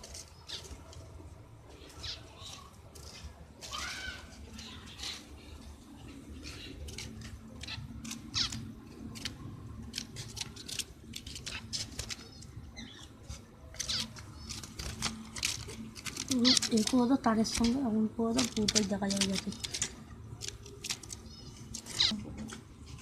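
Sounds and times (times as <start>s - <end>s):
finches chirping: 0.0s - 0.9s, 1.8s - 3.1s, 3.7s - 22.2s
low steady hum: 0.0s - 23.0s.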